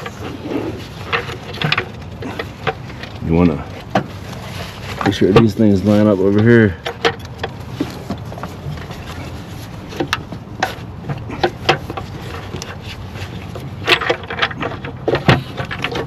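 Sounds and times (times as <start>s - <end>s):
light clicks and knocks of metal parts: 0.0s - 16.0s.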